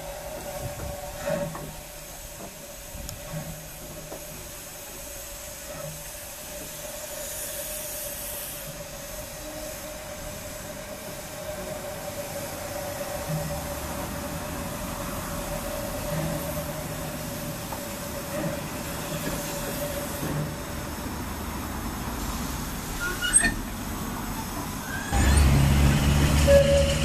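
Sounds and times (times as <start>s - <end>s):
steam hissing: 0.0s - 27.0s.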